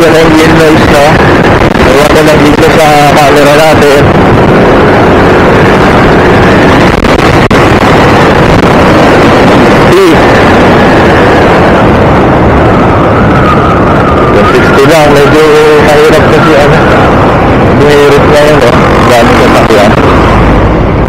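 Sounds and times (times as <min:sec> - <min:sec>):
motorcycle running: 0:00.0 - 0:21.0
wind buffeting microphone: 0:00.0 - 0:21.0.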